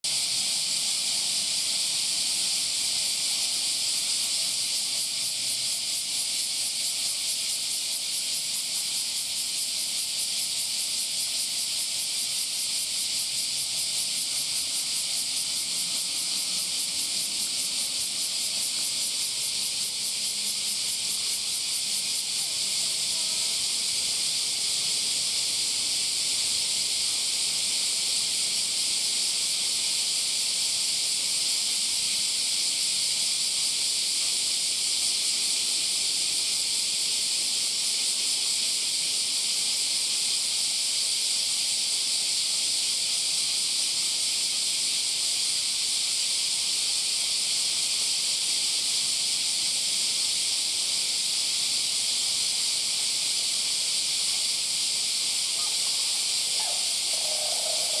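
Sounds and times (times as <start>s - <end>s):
cicadas chorus: 0.0s - 58.0s.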